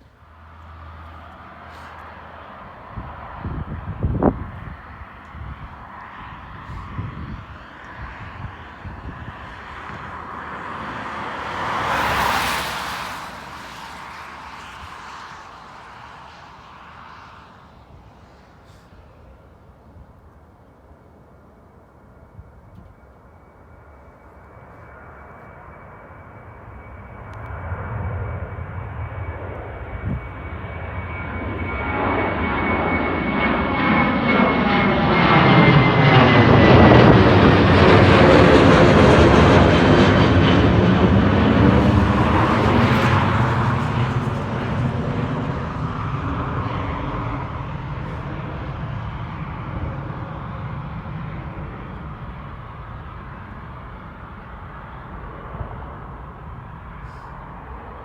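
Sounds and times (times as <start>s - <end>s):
jet airliner passing: 0.0s - 58.0s.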